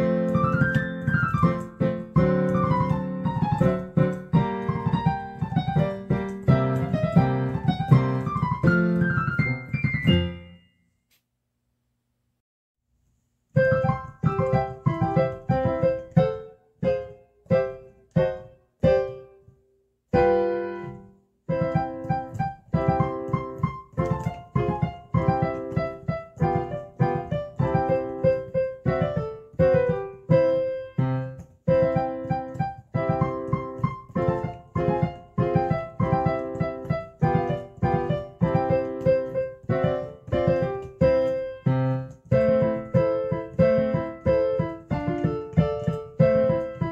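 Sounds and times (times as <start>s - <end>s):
piano music with repeated notes: 0.0s - 10.9s, 13.5s - 46.9s.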